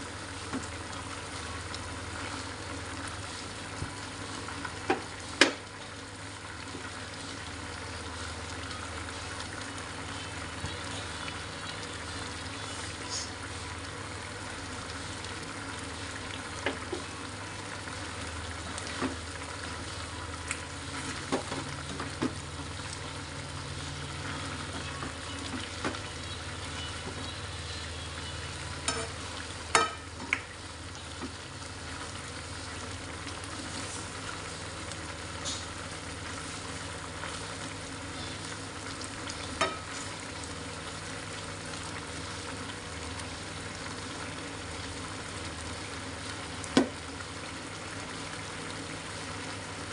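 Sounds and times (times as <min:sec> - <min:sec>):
low steady hum: 0:00.0 - 0:49.9
sauce sizzling and bubbling: 0:00.0 - 0:49.9.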